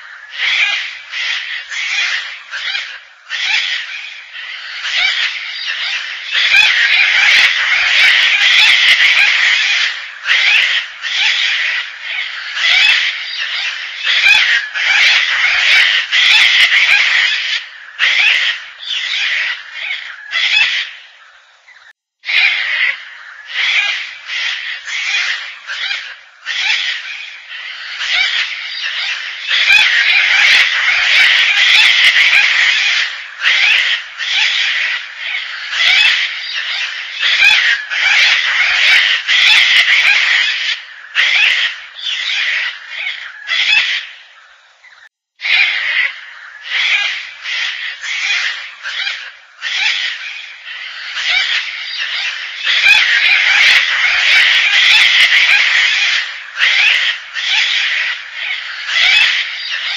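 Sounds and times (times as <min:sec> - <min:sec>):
cockatoos calling harshly: 0:00.0 - 0:59.9.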